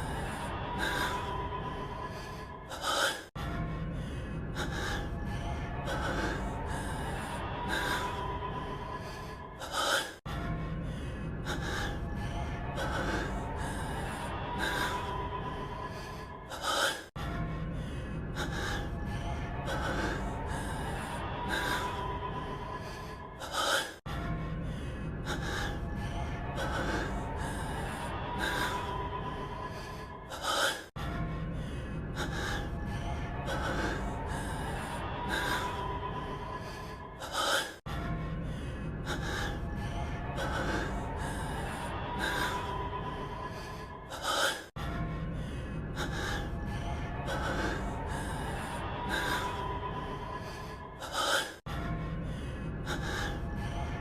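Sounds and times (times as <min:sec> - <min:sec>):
background music: 0:00.0 - 0:54.0
man breathing heavily and gasping: 0:00.0 - 0:54.0.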